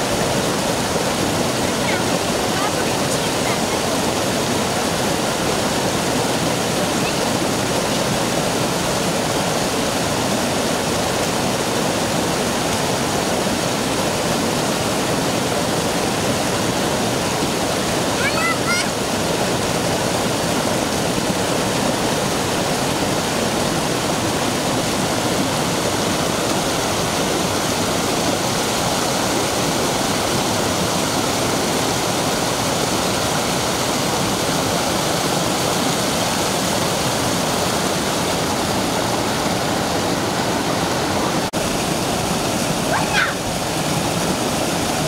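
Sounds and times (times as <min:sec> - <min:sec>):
mountain stream rushing over boulders: 0:00.0 - 0:45.0.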